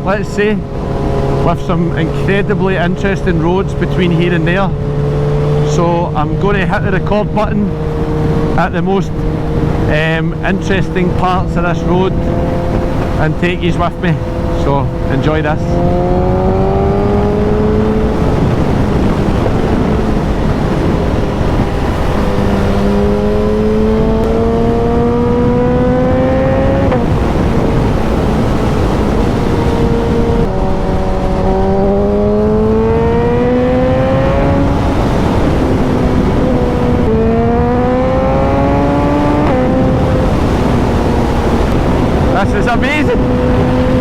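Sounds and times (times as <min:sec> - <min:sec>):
motorcycle engine accelerating: 0:00.0 - 0:44.0
wind rush: 0:00.0 - 0:44.0.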